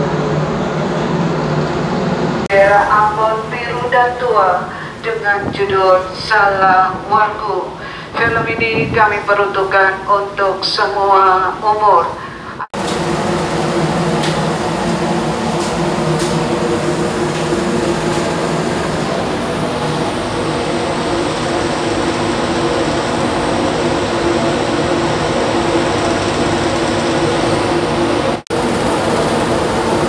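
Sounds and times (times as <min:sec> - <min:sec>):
ship engines droning: 0:00.0 - 0:30.0.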